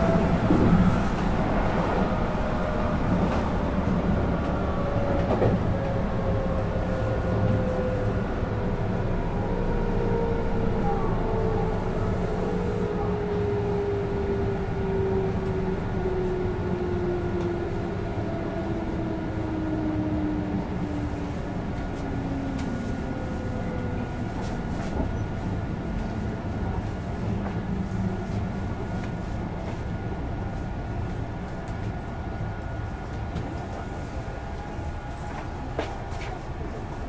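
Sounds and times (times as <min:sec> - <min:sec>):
train running noise: 0:00.0 - 0:37.0.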